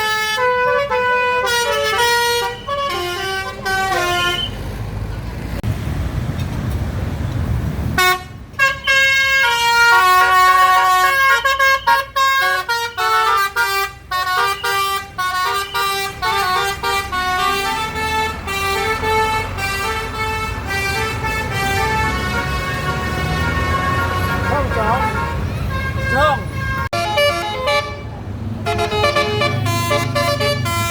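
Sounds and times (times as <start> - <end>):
bus horn playing a tune: 0.0 - 4.7, 8.0 - 30.9
engine and traffic rumble: 0.0 - 30.9.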